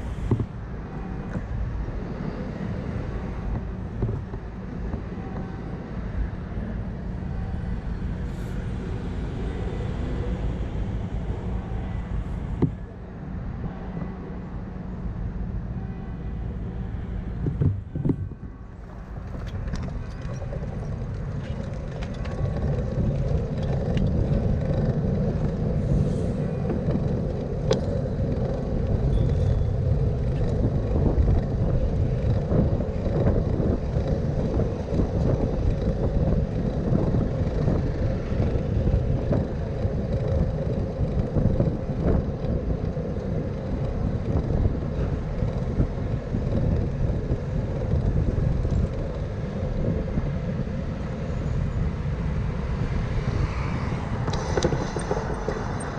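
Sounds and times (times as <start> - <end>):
bicycle road noise: 0.0 - 55.9
city traffic: 0.0 - 55.9
wind on microphone: 0.0 - 55.9.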